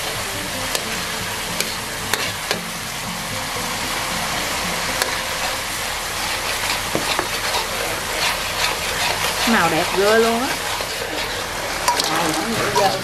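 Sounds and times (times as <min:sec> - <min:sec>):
sauce sizzling in wok: 0:00.0 - 0:13.0.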